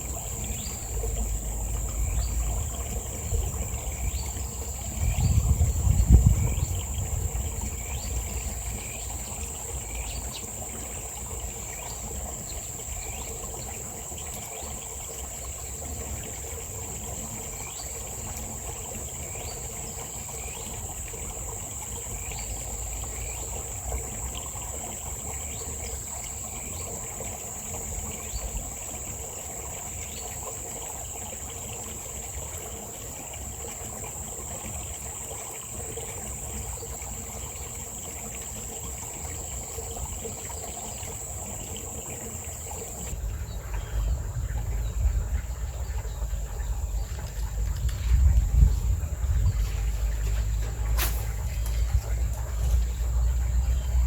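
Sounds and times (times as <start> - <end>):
faint insect chirps: 0.0 - 54.0
insects trilling: 0.0 - 54.0.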